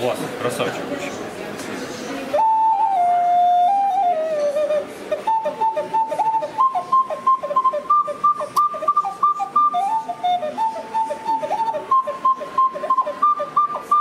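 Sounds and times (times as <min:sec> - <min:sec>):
ocarina playing: 0:02.3 - 0:14.0.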